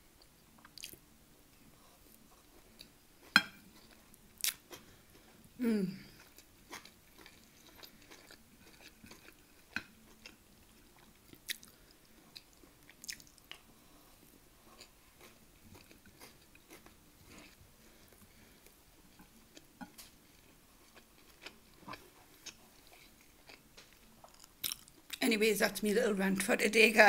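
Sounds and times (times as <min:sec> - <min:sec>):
chewing and eating: 0:00.2 - 0:01.0, 0:02.0 - 0:05.4, 0:06.1 - 0:25.2.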